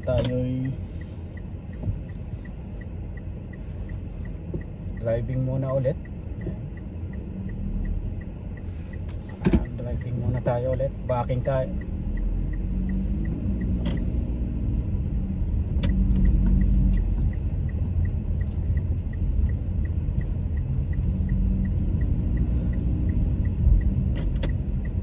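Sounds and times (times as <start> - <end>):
car engine and road rumble: 0.0 - 25.0
light even ticking: 0.0 - 25.0.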